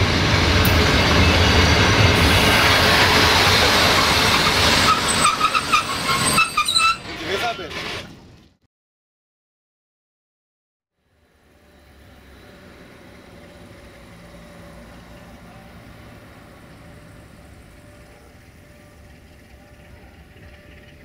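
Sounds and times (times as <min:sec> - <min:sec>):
diesel locomotive engine rumbling: 0:00.0 - 0:08.5, 0:11.0 - 0:21.0.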